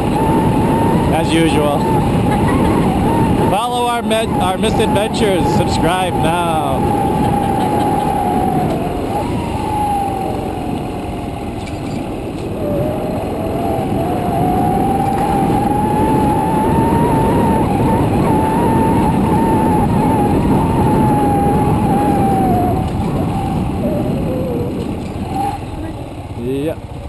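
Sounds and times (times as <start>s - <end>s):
wind rumble on microphone: 0.0s - 26.8s
motorcycle engine whine: 0.0s - 27.0s.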